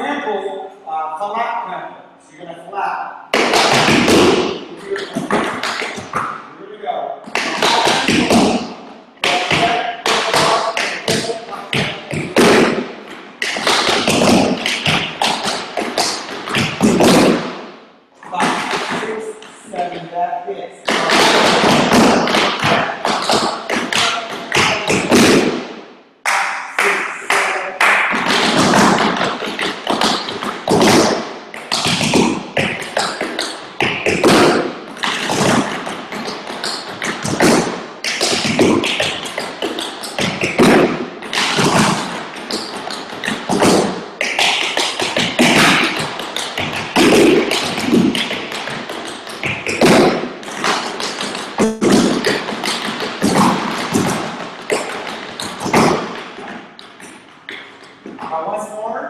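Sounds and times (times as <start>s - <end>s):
tap shoes on wooden boards: 3.3s - 6.4s, 7.3s - 17.6s, 20.9s - 25.7s, 28.0s - 58.3s.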